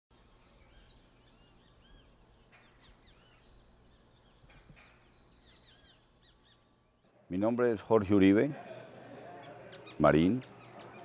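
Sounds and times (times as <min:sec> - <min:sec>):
birds chirping: 0:00.1 - 0:11.0
steady background hiss: 0:00.1 - 0:11.0.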